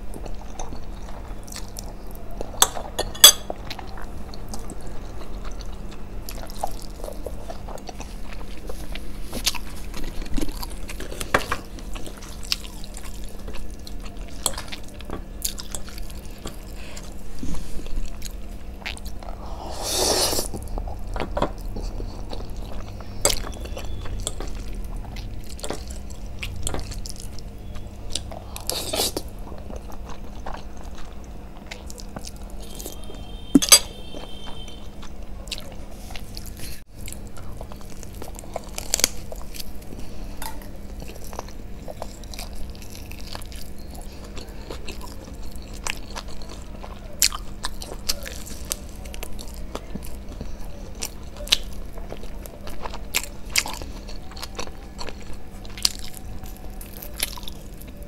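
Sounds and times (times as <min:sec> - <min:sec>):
chewing and biting noodles: 0:03.6 - 0:58.0.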